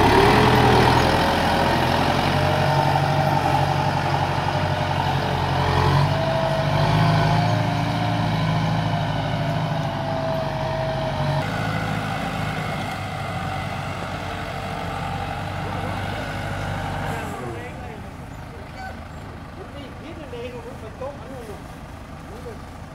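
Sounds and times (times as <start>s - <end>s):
tractor diesel engine: 0.0s - 22.9s.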